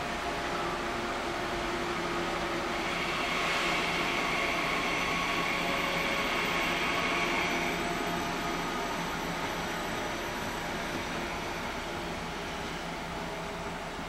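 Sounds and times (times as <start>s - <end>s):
high train whine: 0.0s - 14.0s
train wheels rumbling on rails: 0.0s - 14.0s.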